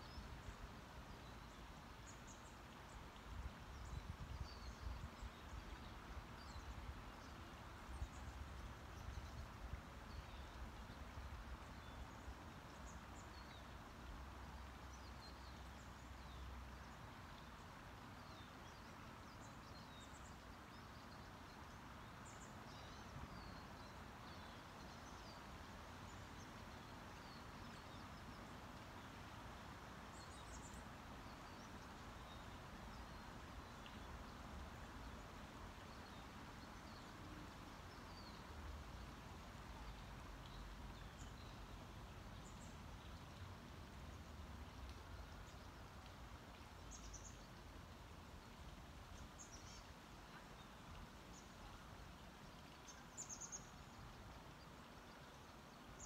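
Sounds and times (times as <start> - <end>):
faint background noise: 0.0 - 56.0.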